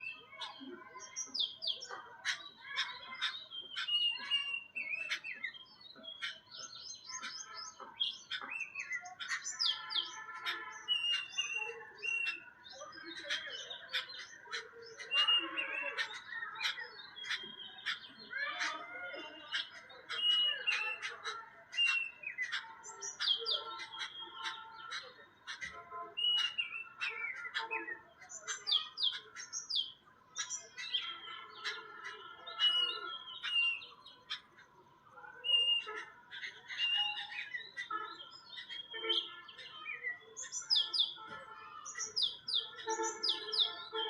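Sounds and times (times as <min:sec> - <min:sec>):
babblers chattering: 0:00.0 - 0:44.0.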